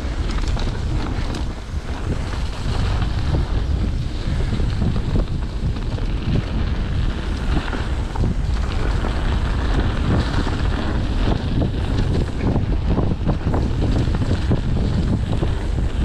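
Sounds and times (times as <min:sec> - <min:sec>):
bike clicks and rattles: 0:00.0 - 0:16.0
mountain bike rumbling on dirt: 0:00.0 - 0:16.0
wind buffeting microphone: 0:00.0 - 0:16.0.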